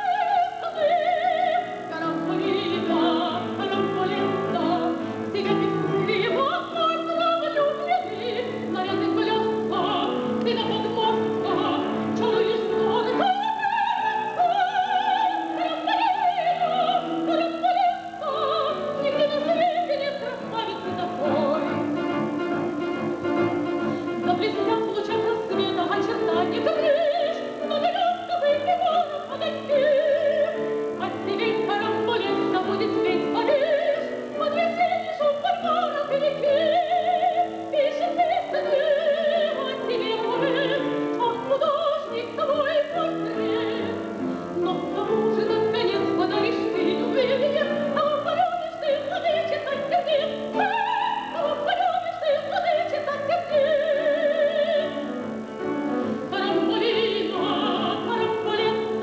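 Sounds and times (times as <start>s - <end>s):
piano accompaniment: 0.0s - 59.0s
woman singing opera: 0.0s - 59.0s.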